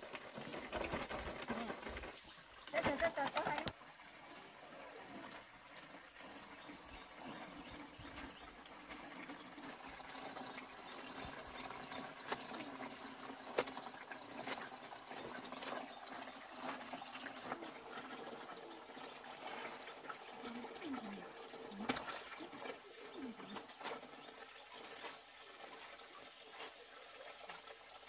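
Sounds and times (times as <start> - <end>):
splashing and sloshing of clothes: 0.0 - 10.0, 11.2 - 18.2, 19.3 - 27.8
water streaming into plastic basin: 0.0 - 28.0.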